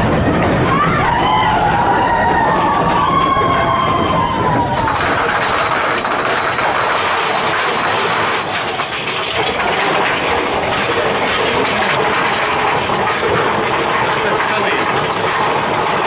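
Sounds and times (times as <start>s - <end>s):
roller coaster clatter and rumble: 0.0s - 16.0s.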